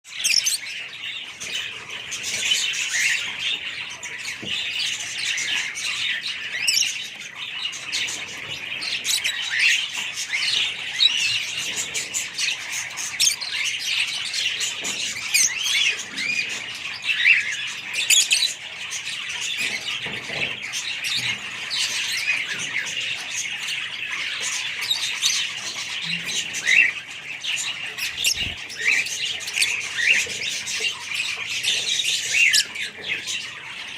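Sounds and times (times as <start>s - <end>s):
lovebirds chirping and squawking: 0.0s - 33.9s.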